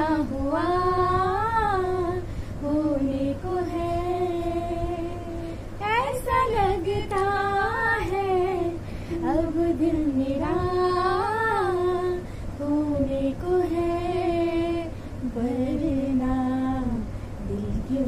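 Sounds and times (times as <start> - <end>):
women singing unaccompanied: 0.0 - 18.0.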